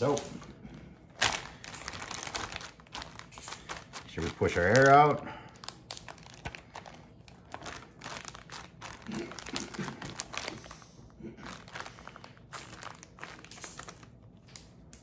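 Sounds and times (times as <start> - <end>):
plastic bag crinkling: 0.0 - 14.7.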